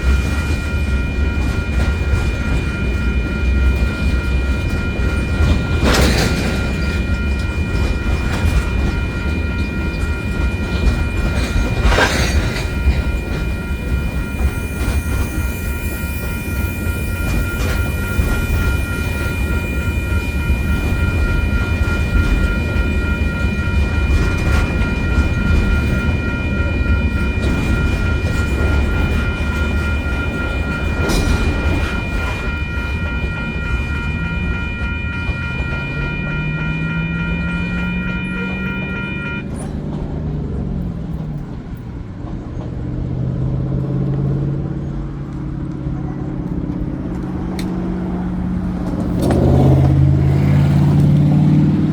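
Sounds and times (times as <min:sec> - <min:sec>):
freight train rumbling past: 0:00.0 - 0:51.9
railroad crossing warning bell: 0:00.0 - 0:51.9
road vehicle engines: 0:00.0 - 0:51.9.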